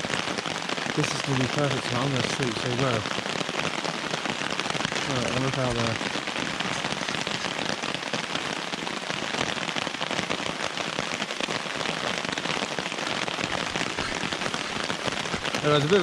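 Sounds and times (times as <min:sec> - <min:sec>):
heavy rain on a tarp: 0:00.0 - 0:16.0.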